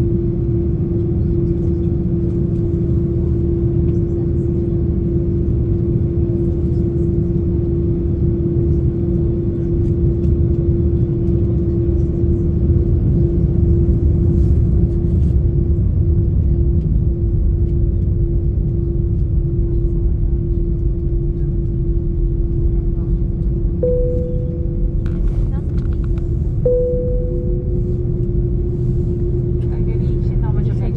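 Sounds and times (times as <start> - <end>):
jet engines droning in cabin: 0.0 - 30.9.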